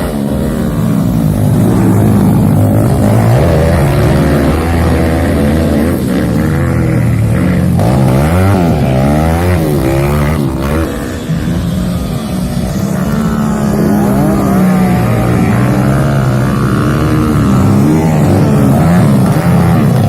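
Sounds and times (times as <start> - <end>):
drone of engines: 0.0 - 20.0
motocross engines revving: 0.0 - 20.0.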